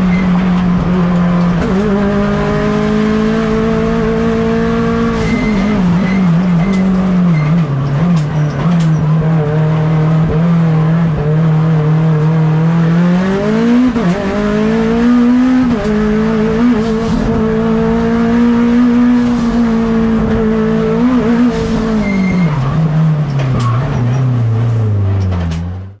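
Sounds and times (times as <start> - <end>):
race car engine under load: 0.0 - 26.0.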